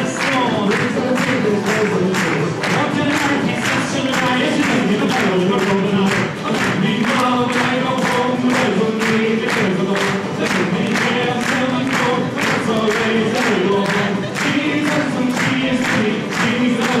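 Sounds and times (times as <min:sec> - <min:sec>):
voices singing: 0:00.0 - 0:17.0.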